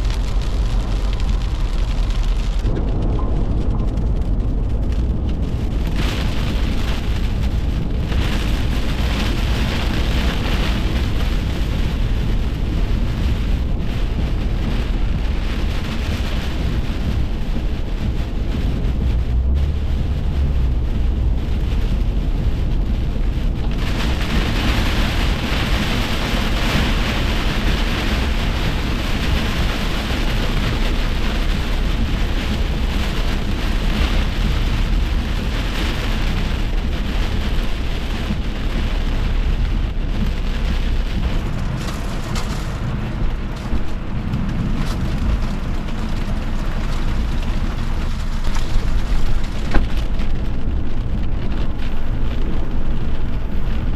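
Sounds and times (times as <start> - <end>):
rain falling: 0.0 - 53.9
steady low rumble: 0.0 - 53.9.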